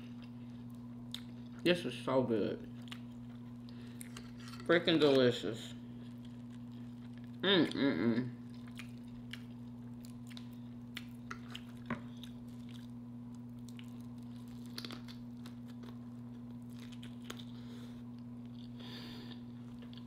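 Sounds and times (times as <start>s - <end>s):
person chewing crunchy food: 0.0s - 1.7s, 2.6s - 20.0s.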